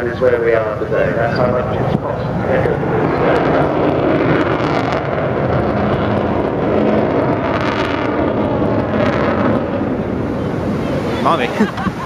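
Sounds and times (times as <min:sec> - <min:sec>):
jet aircraft roaring past: 0:00.0 - 0:12.0.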